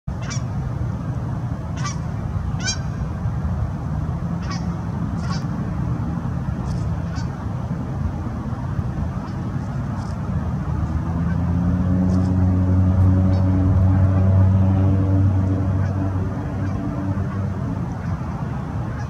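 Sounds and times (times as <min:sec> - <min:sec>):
steady low rumble: 0:00.1 - 0:19.0.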